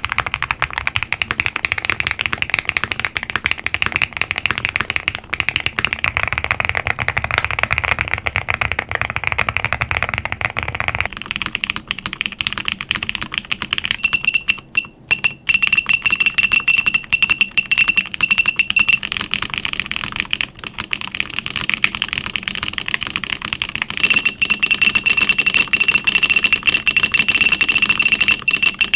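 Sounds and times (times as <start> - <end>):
fast mechanical keyboard typing: 0.0 - 28.9.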